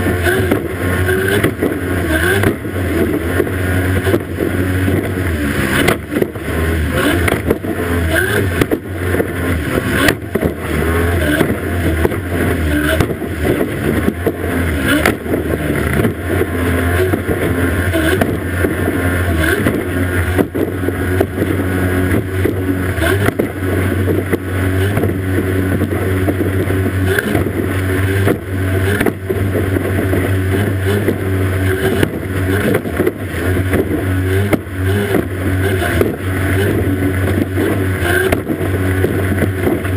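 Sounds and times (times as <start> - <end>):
hull thumping on waves: 0.0 - 39.9
outboard engine at high revs: 0.0 - 39.9
rush of spray and water: 0.0 - 39.9.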